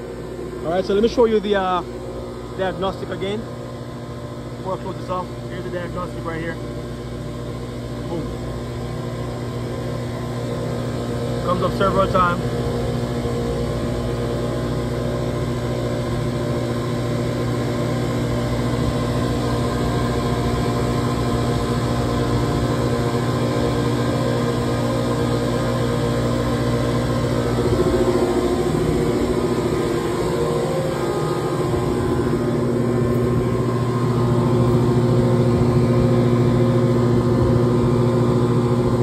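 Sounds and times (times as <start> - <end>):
chiller machine drone: 0.0 - 39.0.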